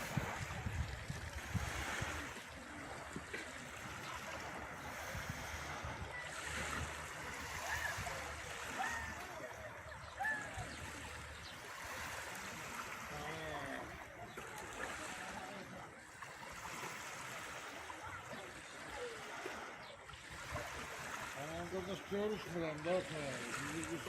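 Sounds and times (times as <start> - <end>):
sea waves washing on shore: 0.0 - 24.0
faint distant voices: 1.5 - 24.0.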